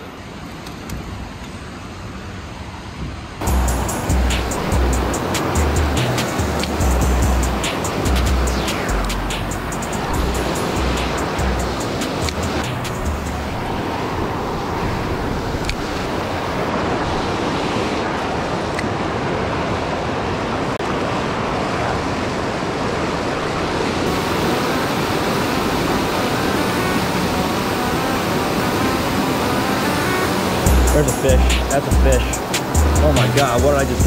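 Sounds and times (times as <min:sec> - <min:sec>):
whitewater rushing over a weir: 0:03.4 - 0:34.0.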